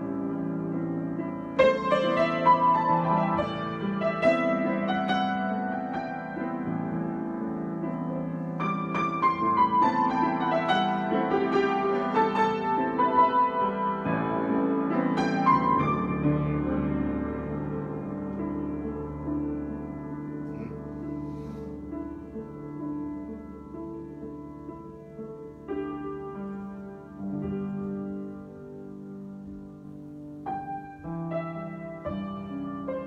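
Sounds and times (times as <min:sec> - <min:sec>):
solo grand piano: 0:00.0 - 0:33.0.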